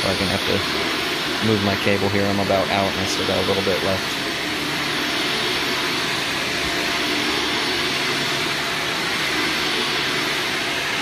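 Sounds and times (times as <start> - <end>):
vacuum cleaner on carpet: 0.0 - 11.0.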